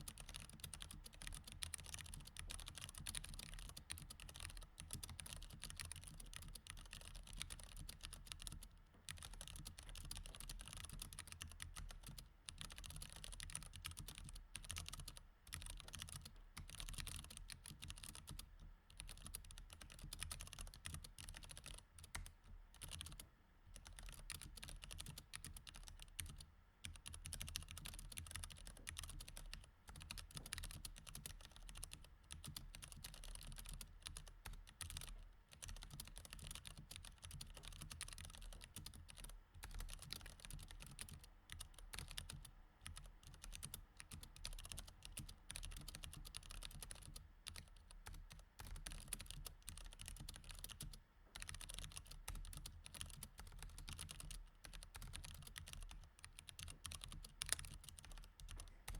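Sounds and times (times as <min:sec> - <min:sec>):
typing on mechanical keyboard: 0:00.0 - 0:23.2, 0:23.8 - 0:58.9.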